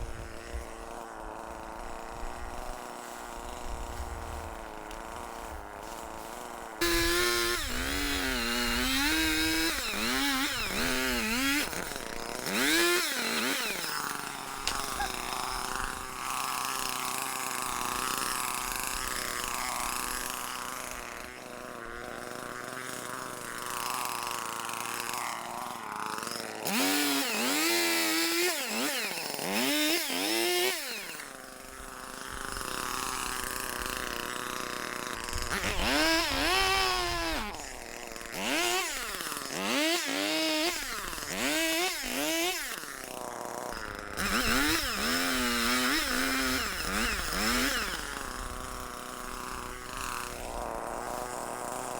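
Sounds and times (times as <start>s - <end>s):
chainsaw revving: 0.0s - 51.9s.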